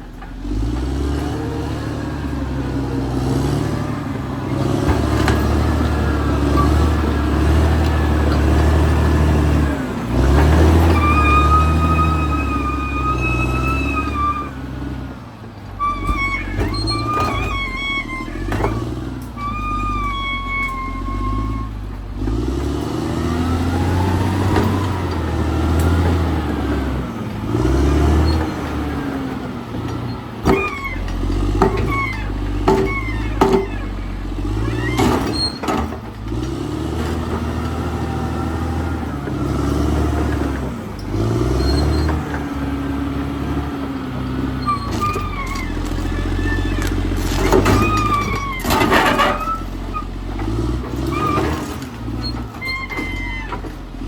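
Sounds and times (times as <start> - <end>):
bulldozer diesel engine under load: 0.0 - 54.0.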